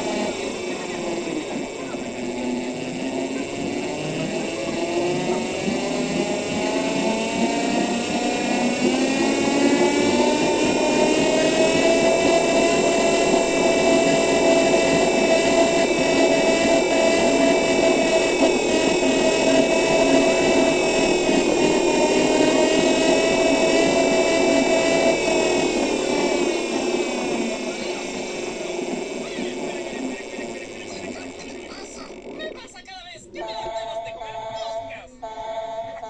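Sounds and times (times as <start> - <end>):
electric bus motor whining: 0.0 - 36.0.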